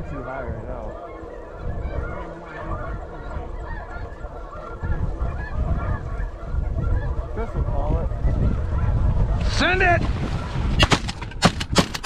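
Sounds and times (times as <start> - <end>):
geese honking: 0.0 - 11.2
wind rumble on microphone: 0.0 - 12.0.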